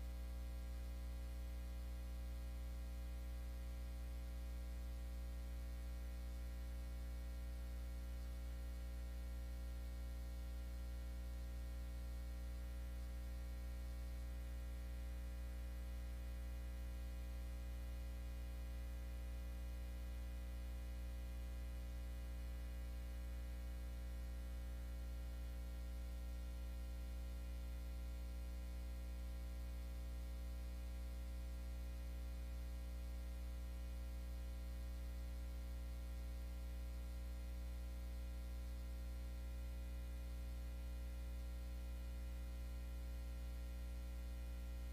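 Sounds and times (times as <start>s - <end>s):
low electrical hum: 0.0s - 44.9s.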